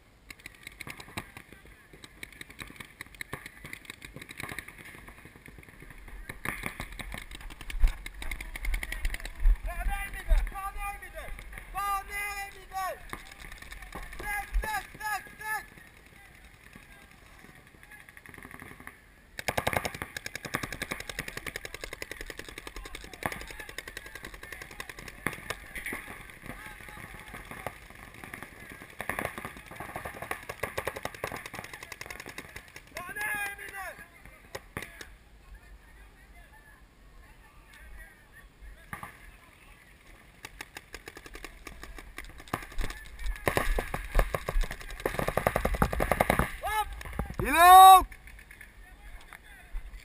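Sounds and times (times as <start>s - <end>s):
paintball markers firing: 0.3s - 35.1s, 40.4s - 49.4s.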